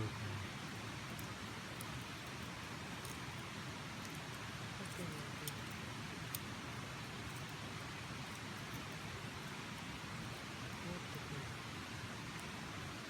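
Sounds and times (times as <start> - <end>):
fire hissing and crackling: 0.4 - 10.9.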